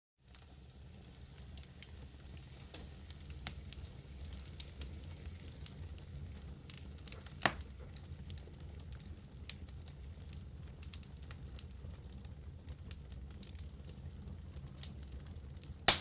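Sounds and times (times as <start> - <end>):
wood fire roaring and crackling: 0.2 - 16.0.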